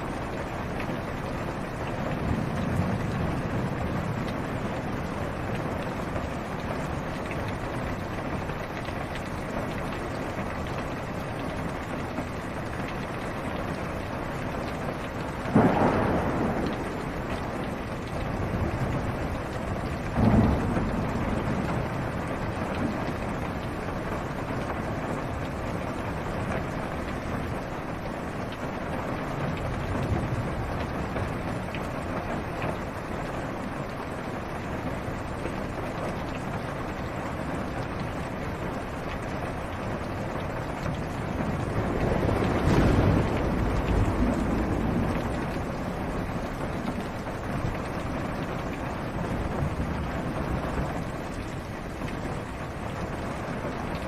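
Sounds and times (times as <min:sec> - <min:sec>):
low rumble of thunder: 0:00.0 - 0:54.0
rain on car roof: 0:00.0 - 0:54.0.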